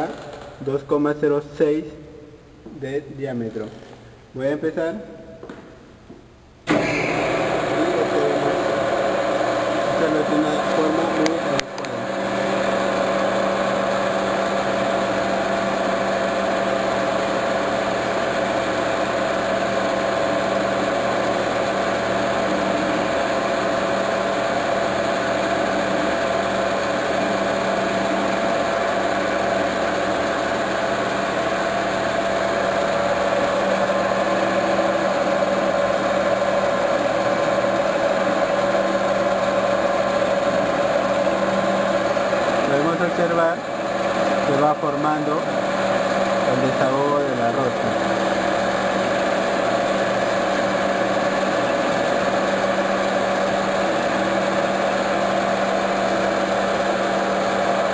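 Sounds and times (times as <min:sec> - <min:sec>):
metal lathe running: 0:06.7 - 0:57.9.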